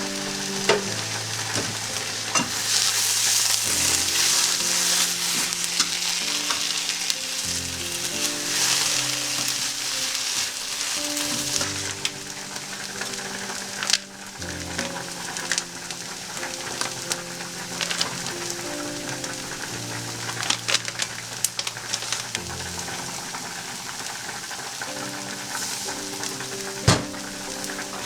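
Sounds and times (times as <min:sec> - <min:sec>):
food sizzling in a frying pan: 0:00.0 - 0:28.0
soft background music: 0:00.0 - 0:28.0.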